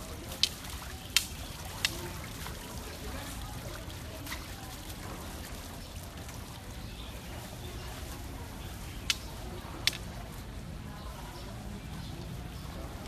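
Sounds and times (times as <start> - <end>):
water running: 0.0 - 10.5.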